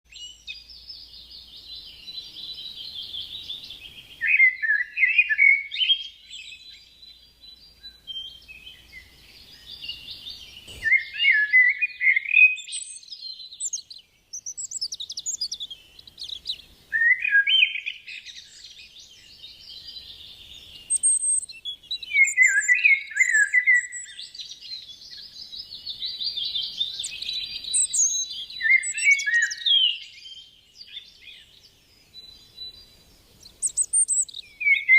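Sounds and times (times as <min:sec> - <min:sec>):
bird singing: 0:00.1 - 0:34.9.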